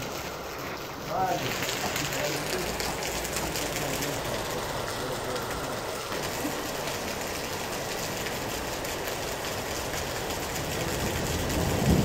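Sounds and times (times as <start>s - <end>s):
heavy rain on wet pavement: 0.0s - 12.0s.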